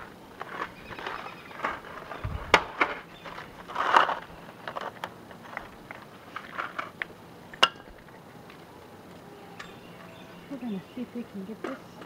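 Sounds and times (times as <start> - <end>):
rustle: 0.0 - 12.0.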